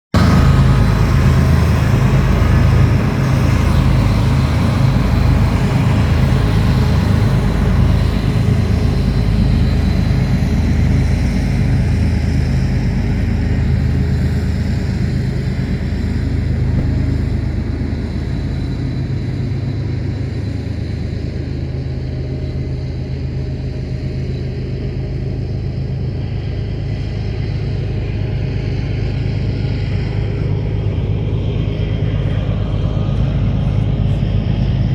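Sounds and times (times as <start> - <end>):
heavy engine drone: 0.1 - 34.9.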